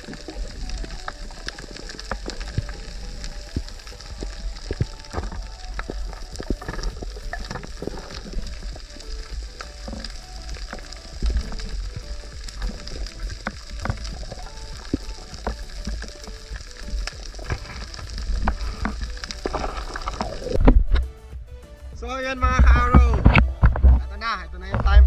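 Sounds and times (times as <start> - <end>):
snapping shrimp clicking: 0.0 - 20.6
low underwater rumble: 0.0 - 24.1.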